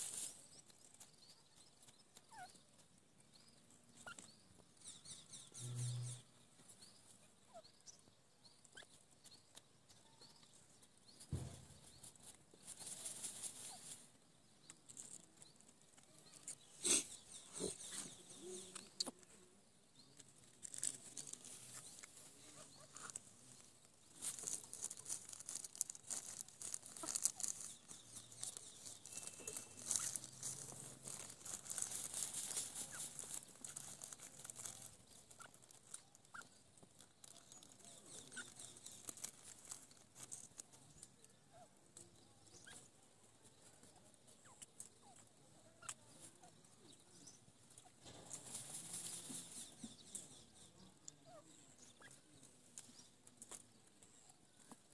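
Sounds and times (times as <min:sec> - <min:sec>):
bird dust-bathing in dry soil: 0:00.0 - 0:02.1, 0:08.8 - 0:41.4, 0:42.5 - 0:54.8.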